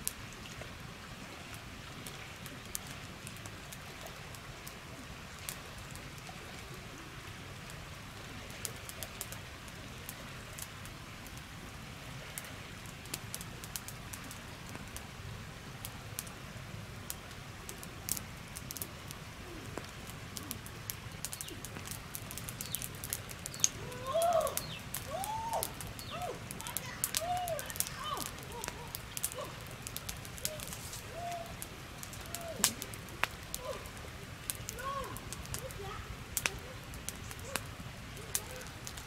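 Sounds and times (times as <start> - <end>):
wood fire crackling and popping: 0.0 - 0.8, 1.4 - 11.6, 12.2 - 39.0
river flowing: 0.0 - 39.0.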